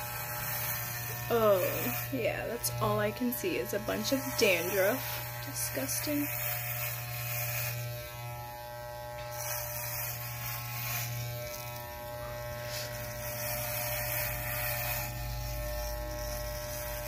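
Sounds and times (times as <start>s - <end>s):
electric hair clippers buzzing: 0.0s - 17.0s
hiss of hair cutting: 0.0s - 17.0s.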